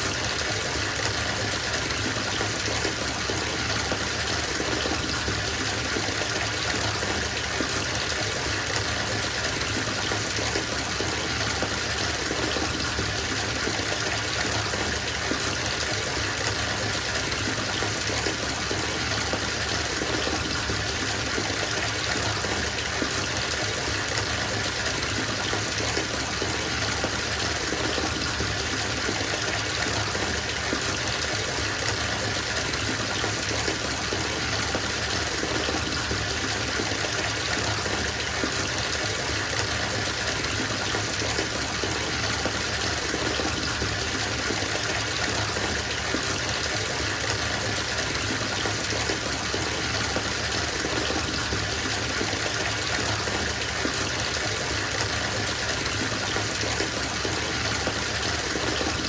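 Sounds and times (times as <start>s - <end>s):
water running into bathtub: 0.0s - 59.0s.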